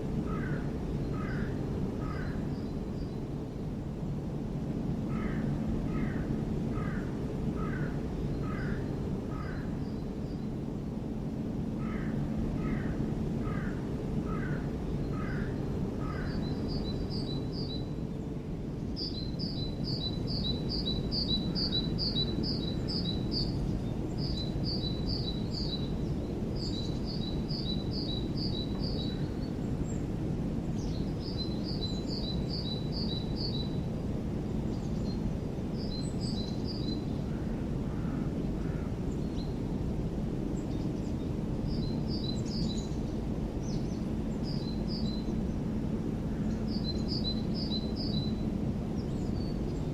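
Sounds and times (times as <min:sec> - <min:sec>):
low background rumble: 0:00.0 - 0:49.9.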